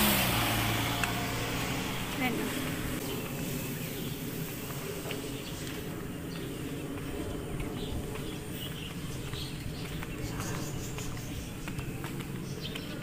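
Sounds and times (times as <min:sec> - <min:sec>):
low outdoor background hum: 0:00.0 - 0:13.0
footsteps on paved street: 0:00.5 - 0:13.0.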